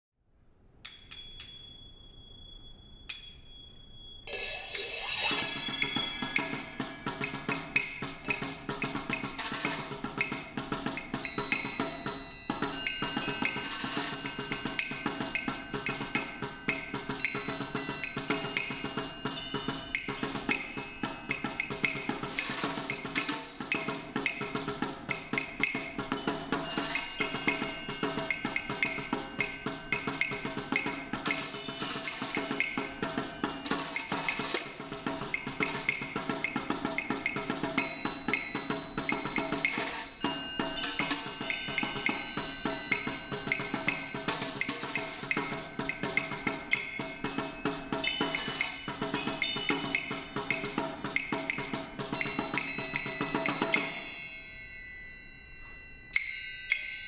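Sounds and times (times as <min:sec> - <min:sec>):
ringing metallic tones: 0:00.8 - 0:57.0
tambourine jingles: 0:00.9 - 0:57.0
hand percussion tapping: 0:05.2 - 0:54.2.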